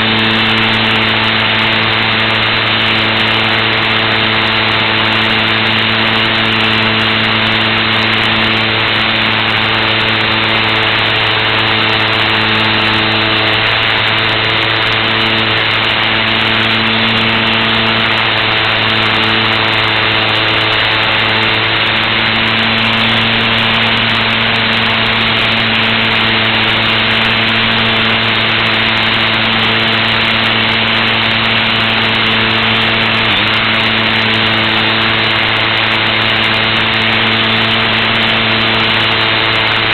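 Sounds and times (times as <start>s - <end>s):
model plane motor hum: 0.0s - 39.9s.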